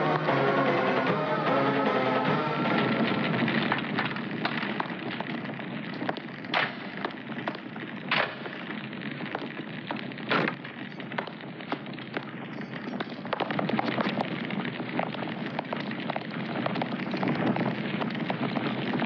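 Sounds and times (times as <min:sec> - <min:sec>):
fire crackling and popping: 0:00.0 - 0:19.0
sharp cracks of fire: 0:00.0 - 0:19.0.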